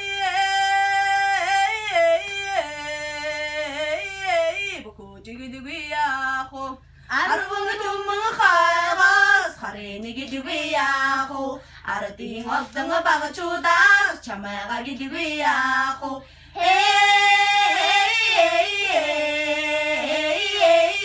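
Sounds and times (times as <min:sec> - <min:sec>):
women singing unaccompanied: 0:00.0 - 0:21.0.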